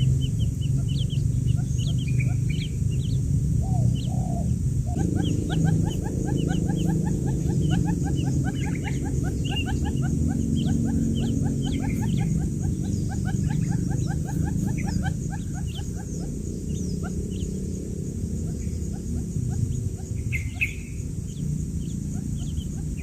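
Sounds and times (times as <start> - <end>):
quail chicks peeping: 0.0 - 23.0
steady low hum: 0.0 - 23.0.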